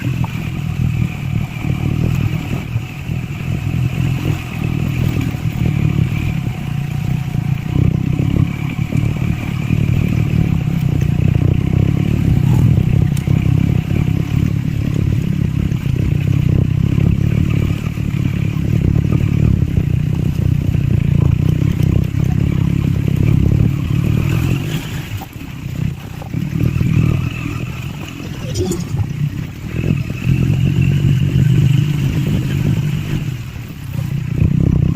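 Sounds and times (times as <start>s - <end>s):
motorcycle engine under load: 0.0s - 28.3s.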